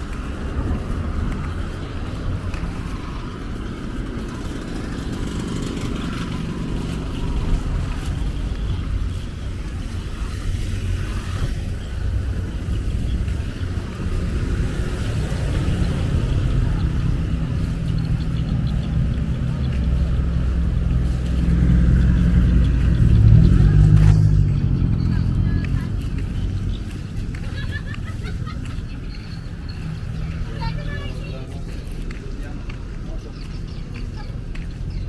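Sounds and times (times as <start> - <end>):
cars driving past: 0.0 - 35.0
engine and tyre rumble: 0.0 - 35.0
motorcycles driving past: 0.0 - 35.0.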